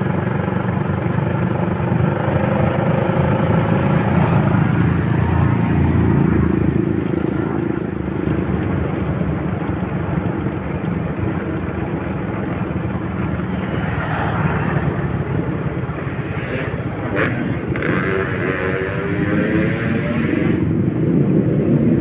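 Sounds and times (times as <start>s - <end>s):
motorcycle engine riding: 0.0s - 22.0s.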